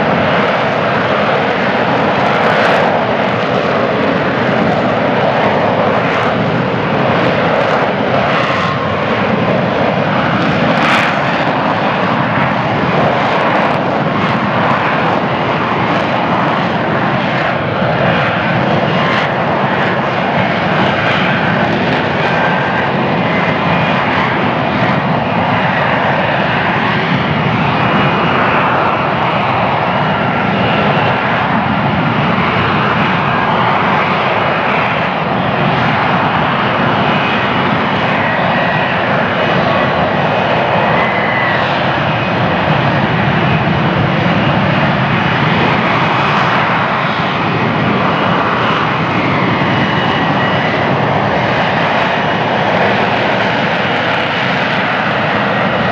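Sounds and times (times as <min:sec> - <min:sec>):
hovering jet engine roar: 0:00.0 - 0:55.9.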